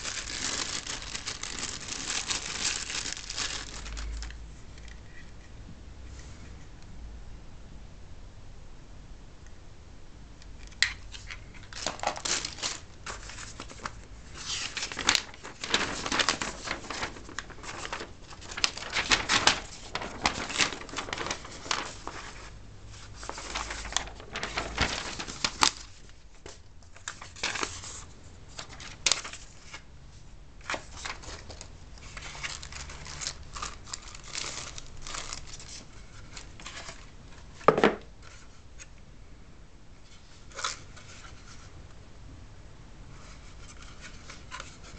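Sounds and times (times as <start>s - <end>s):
paper rustling and crinkling: 0.0s - 5.4s, 10.8s - 29.8s, 30.6s - 38.9s, 40.0s - 41.7s, 43.1s - 44.9s.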